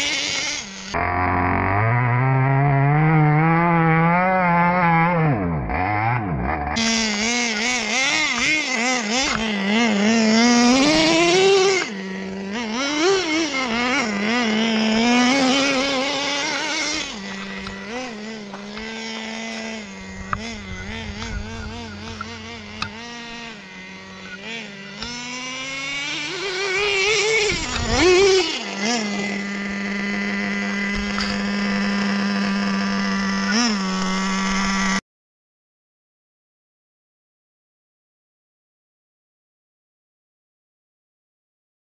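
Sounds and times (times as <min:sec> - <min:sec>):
small motor whining: 0:00.0 - 0:35.0.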